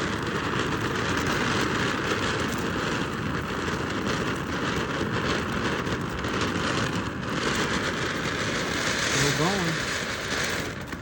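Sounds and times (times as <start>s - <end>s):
firework hissing spray of sparks: 0.0s - 11.0s.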